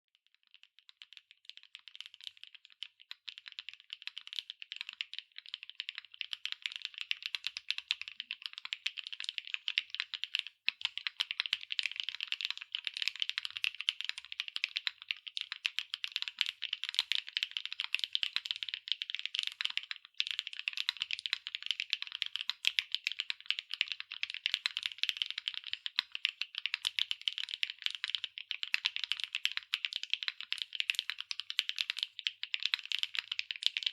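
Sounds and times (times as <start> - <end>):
mechanical keyboard typing: 3.5 - 33.9.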